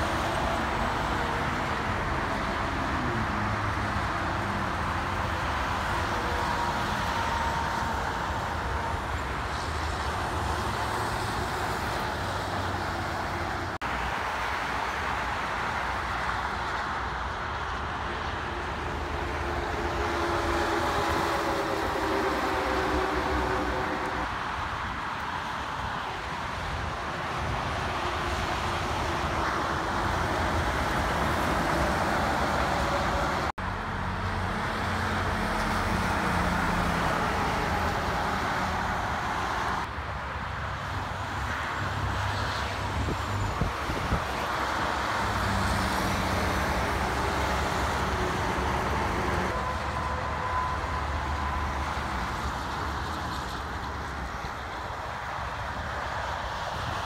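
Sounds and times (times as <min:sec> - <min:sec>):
diesel truck engines droning: 0:00.0 - 0:57.0
tyre roar of passing traffic: 0:00.0 - 0:57.0.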